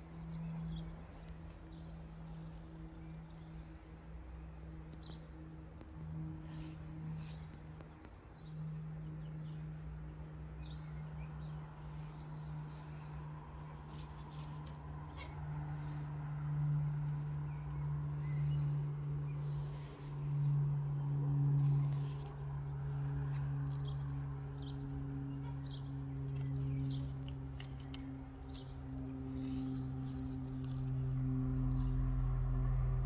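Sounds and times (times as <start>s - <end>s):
ambient music drone: 0.0s - 33.0s.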